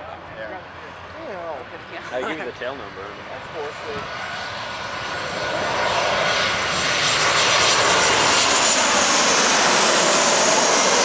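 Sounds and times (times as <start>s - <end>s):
jet aircraft passing overhead: 0.1s - 11.0s.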